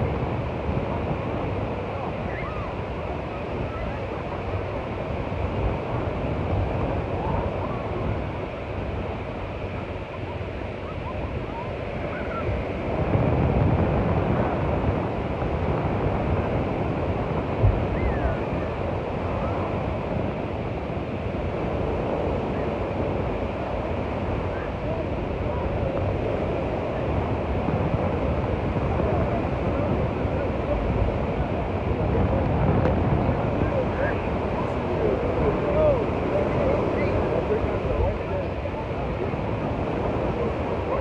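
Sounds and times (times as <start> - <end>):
faint crowd voices: 0.0 - 41.0
ocean waves breaking on beach: 0.0 - 41.0.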